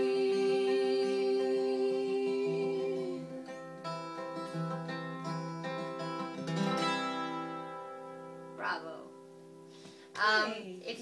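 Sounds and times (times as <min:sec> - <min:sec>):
acoustic guitar strumming chords: 0:00.0 - 0:10.5.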